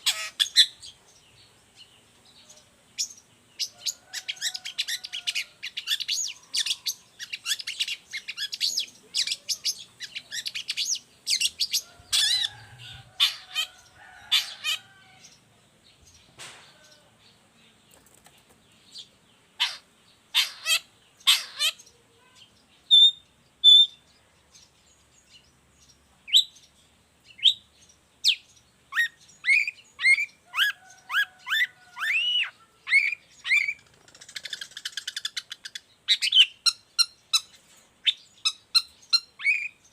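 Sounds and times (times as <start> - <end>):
bird singing rapid chirps: 0.0 - 14.6, 17.4 - 39.9.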